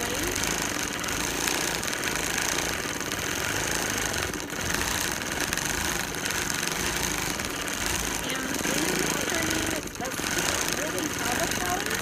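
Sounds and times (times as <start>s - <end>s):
quilting machine stitching: 0.0s - 12.0s.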